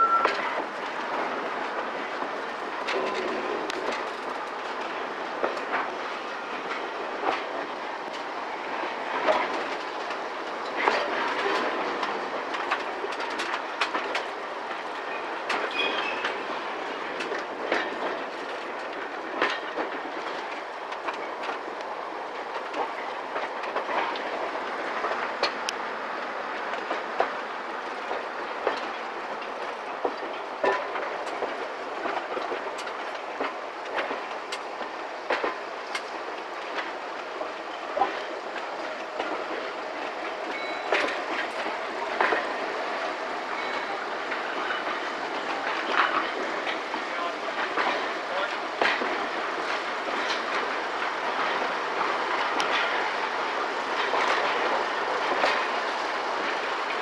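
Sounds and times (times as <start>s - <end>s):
train rolling rumble: 0.0s - 57.0s
wheels clicking over rail joints: 0.0s - 57.0s.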